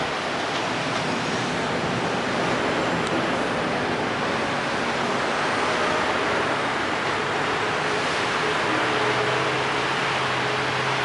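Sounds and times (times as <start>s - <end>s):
electric train rushing past: 0.0s - 11.0s.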